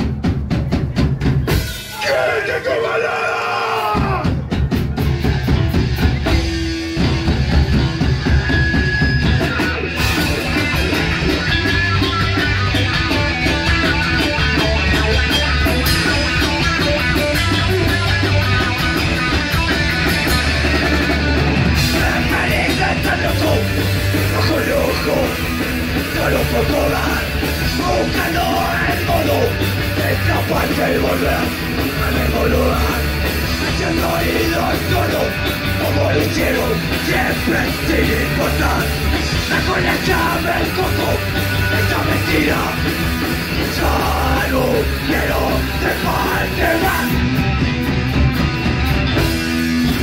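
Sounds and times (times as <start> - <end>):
punk band playing live: 0.0 - 50.0.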